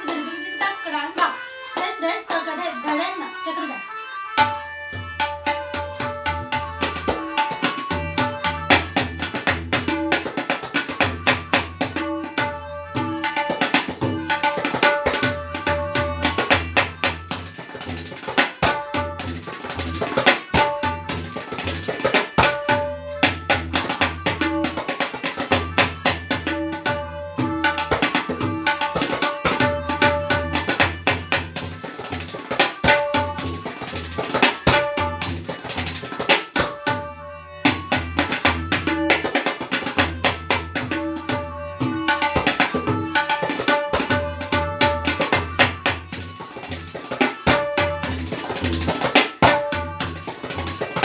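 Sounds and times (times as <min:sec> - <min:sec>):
tabla drumming: 0:00.0 - 0:03.2, 0:04.4 - 0:51.0.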